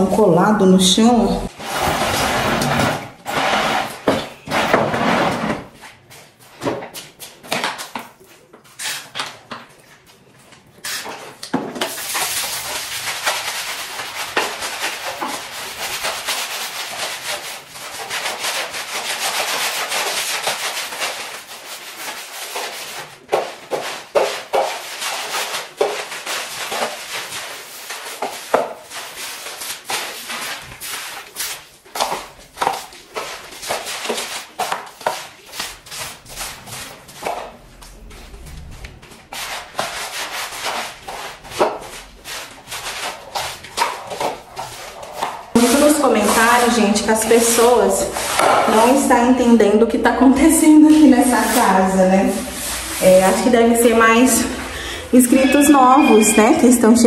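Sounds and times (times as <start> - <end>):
broom scrubbing wet tiled floor: 0.2 - 57.0.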